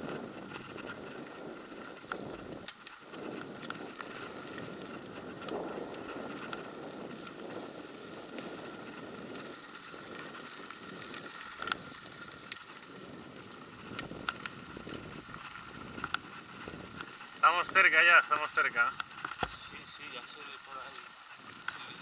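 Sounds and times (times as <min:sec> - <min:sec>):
bike clicks and rattles: 0:00.0 - 0:22.0
bike tyres crunching on gravel: 0:00.0 - 0:22.0.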